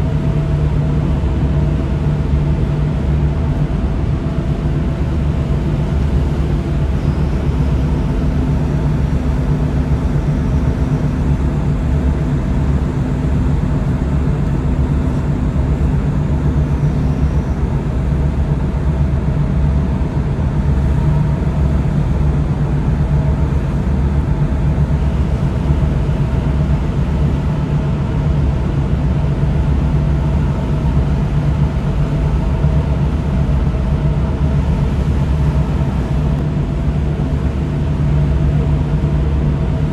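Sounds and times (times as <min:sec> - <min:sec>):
tugboat engine humming: 0:00.0 - 0:39.9.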